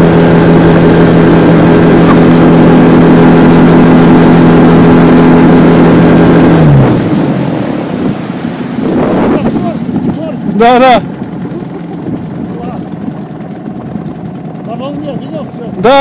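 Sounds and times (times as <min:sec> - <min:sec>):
outboard motor running: 0:00.0 - 0:16.0
water washing against hull: 0:00.0 - 0:16.0.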